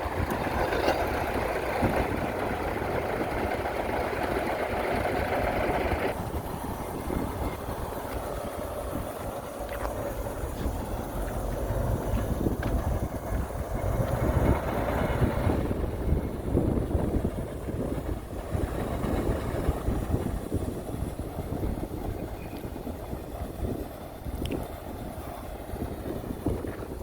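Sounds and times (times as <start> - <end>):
diesel machinery rumbling: 0.0 - 27.0.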